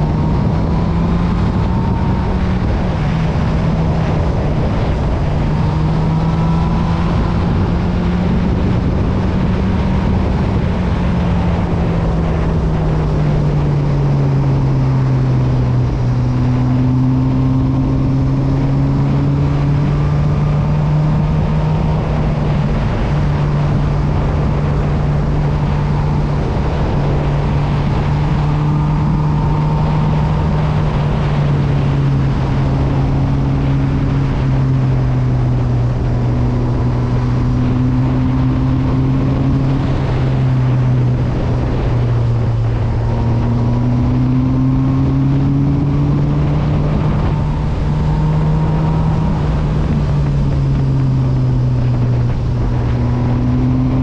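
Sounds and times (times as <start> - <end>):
motorcycle engine running: 0.0 - 54.0
steady rush of noise: 0.0 - 54.0.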